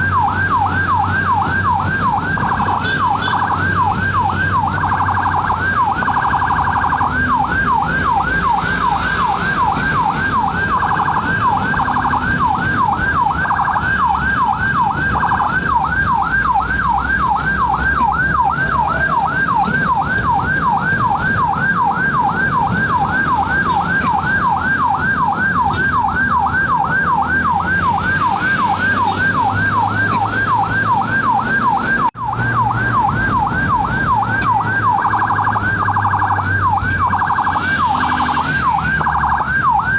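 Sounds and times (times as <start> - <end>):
ambulance siren yelping: 0.0 - 39.9
low road rumble: 0.0 - 39.9.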